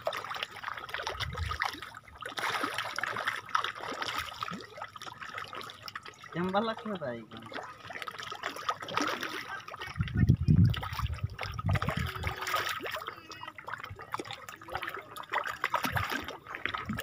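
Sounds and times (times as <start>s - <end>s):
fish splashing at water surface: 0.0s - 17.0s.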